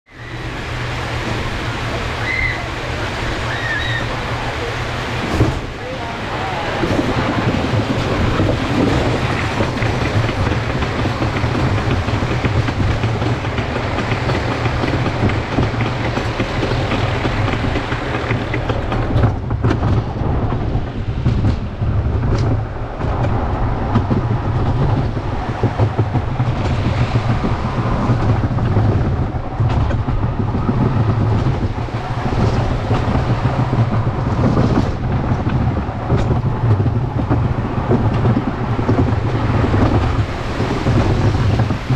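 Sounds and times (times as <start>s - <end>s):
roller coaster wheels rattling: 0.1s - 41.9s
roller coaster chain lift clatter: 0.2s - 41.9s.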